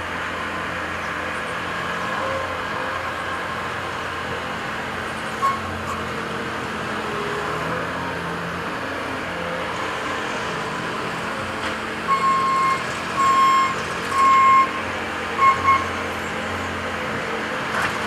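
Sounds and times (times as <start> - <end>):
construction machine diesel engines: 0.0 - 18.0.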